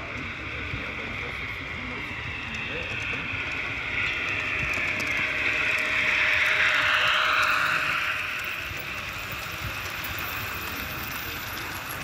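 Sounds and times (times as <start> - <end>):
model train running on rails: 0.0 - 12.0.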